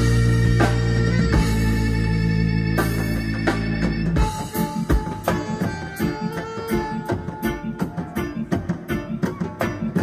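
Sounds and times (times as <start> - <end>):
guitar: 0.0 - 10.0.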